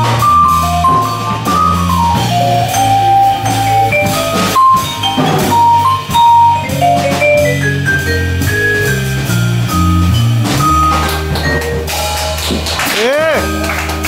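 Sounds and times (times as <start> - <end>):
drum kit: 0.0 - 14.0
vibraphone melody: 0.0 - 14.0
walking bass: 0.0 - 14.0.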